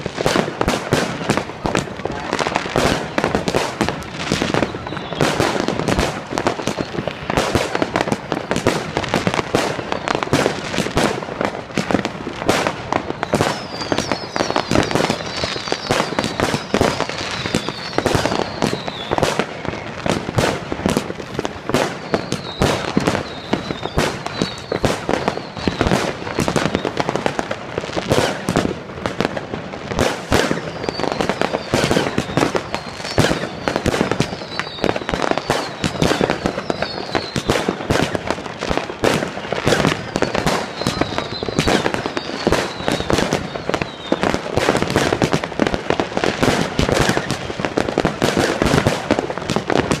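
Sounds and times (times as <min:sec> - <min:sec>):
firecrackers banging and crackling: 0:00.0 - 0:50.0
firework whistles falling in pitch: 0:00.3 - 0:11.1, 0:12.5 - 0:27.4, 0:28.1 - 0:28.7, 0:30.0 - 0:45.4, 0:46.2 - 0:49.1.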